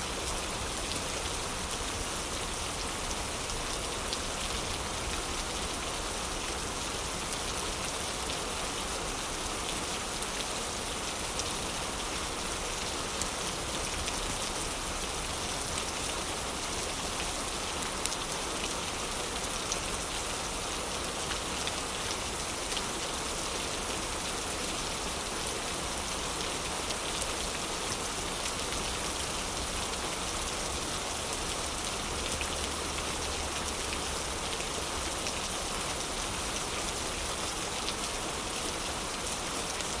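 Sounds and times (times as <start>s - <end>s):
heavy rain: 0.0s - 40.0s.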